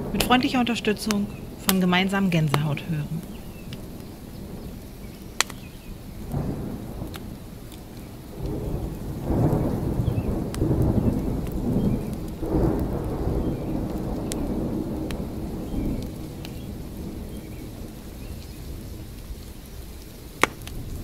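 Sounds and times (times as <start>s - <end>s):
rolling thunder: 0.0s - 21.0s
sharp thunder crackles: 0.0s - 21.0s
steady rain: 0.0s - 21.0s.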